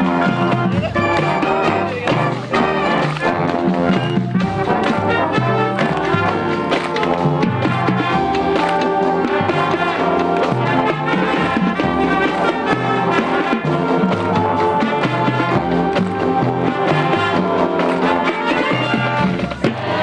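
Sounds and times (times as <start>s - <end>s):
live band with brass: 0.0s - 20.0s.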